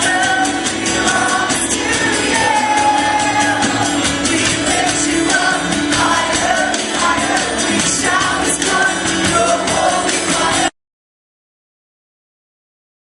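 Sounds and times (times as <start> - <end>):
voices singing worship music: 0.0 - 10.7.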